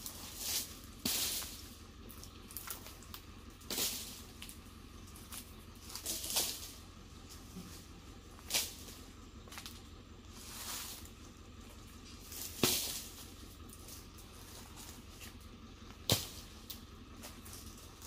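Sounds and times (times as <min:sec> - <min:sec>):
palm fronds rustling: 0:00.0 - 0:18.0.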